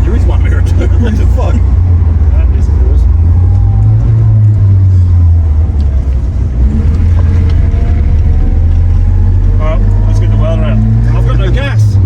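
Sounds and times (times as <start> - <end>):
car engine droning: 0.0 - 12.0
road noise: 0.0 - 12.0.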